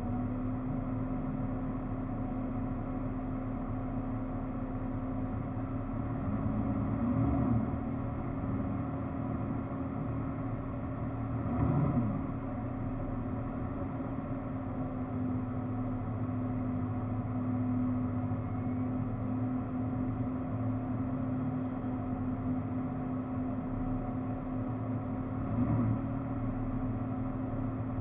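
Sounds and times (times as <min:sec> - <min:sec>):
off-road vehicle engine: 0:00.0 - 0:28.0.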